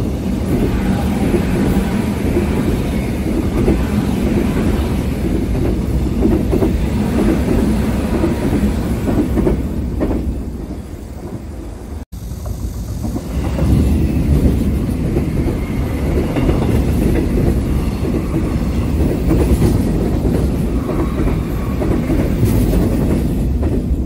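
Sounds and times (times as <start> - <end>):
train rumbling overhead: 0.0 - 24.0.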